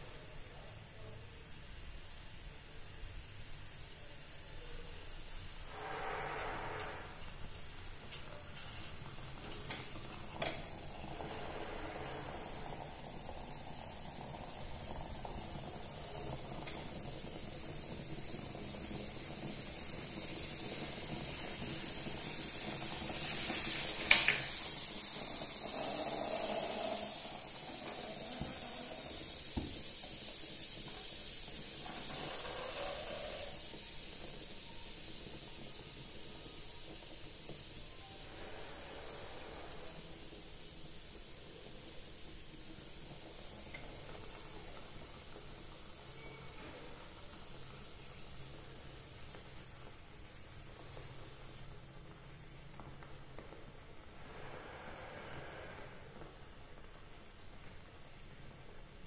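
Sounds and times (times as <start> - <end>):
gas burner flame: 0.0 - 59.0
moka pot hissing: 0.0 - 59.0.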